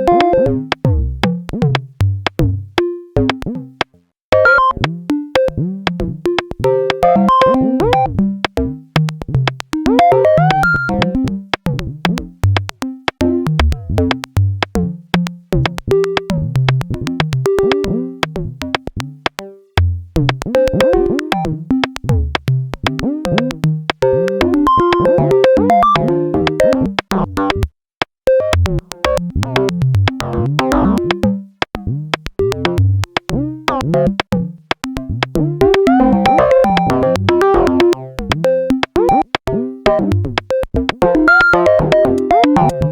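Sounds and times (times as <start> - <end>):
fast clicking percussion: 0.1 - 2.5, 4.8 - 27.7, 28.4 - 42.9.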